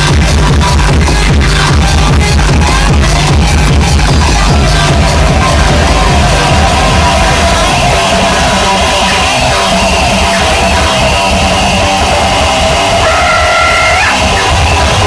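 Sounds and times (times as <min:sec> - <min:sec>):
loud distorted industrial music: 0:00.0 - 0:15.0.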